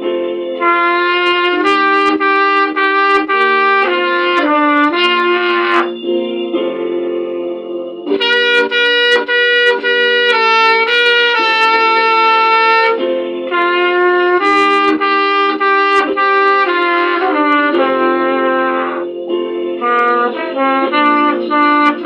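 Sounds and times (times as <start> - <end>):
low held chords: 0.0 - 22.0
trumpet playing a hymn melody: 0.6 - 6.2, 8.0 - 22.0.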